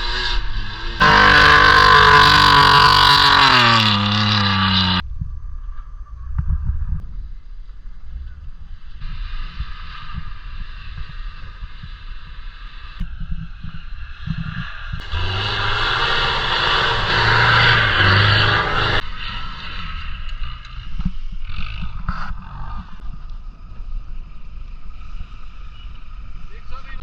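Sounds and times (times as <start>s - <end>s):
off-road vehicle engine rumbling: 0.0s - 27.0s.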